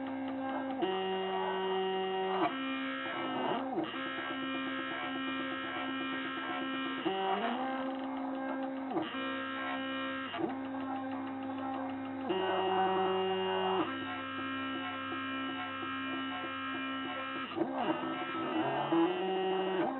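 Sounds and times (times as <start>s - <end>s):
stepper motors whining: 0.0s - 19.9s.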